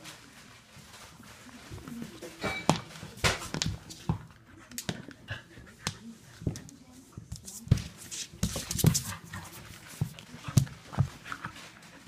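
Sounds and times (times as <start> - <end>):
dogs scuffling on wooden floor: 0.0 - 12.0.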